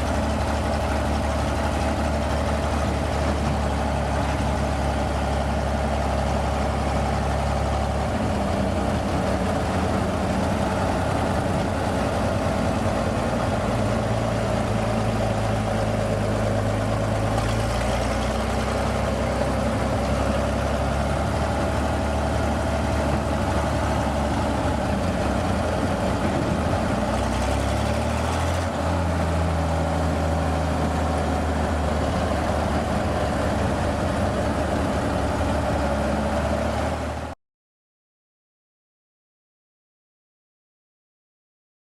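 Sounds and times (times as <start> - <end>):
truck engine running: 0.0 - 37.4.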